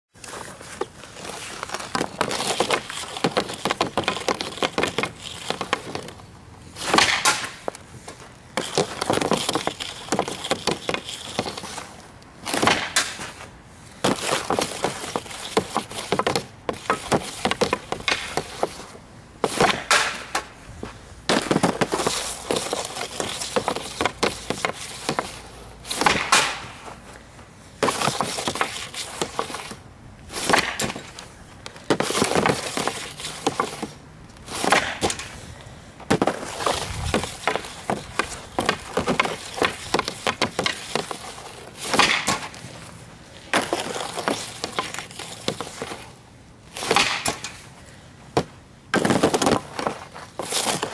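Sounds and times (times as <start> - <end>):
stick and puck cracking: 0.2 - 13.4, 14.0 - 26.9, 27.8 - 42.8, 43.4 - 47.7, 48.3 - 50.9
hockey stick scraping on ice: 0.2 - 27.2, 27.8 - 35.5, 36.1 - 47.7, 49.0 - 50.9.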